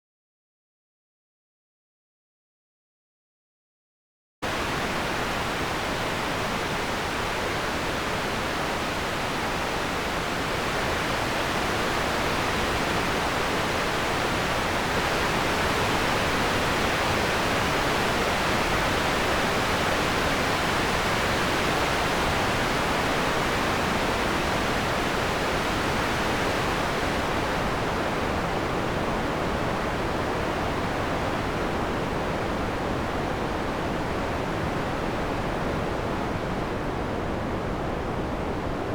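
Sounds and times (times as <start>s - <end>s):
synthesized wind hiss: 4.4s - 38.9s.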